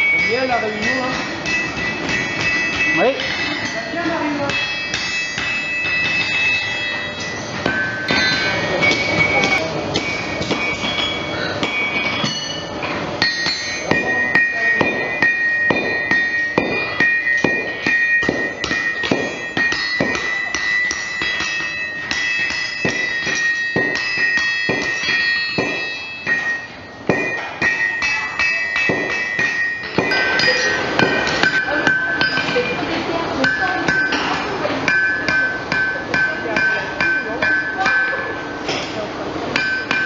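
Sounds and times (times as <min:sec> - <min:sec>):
hammers striking steel on anvils: 0:00.0 - 0:40.0.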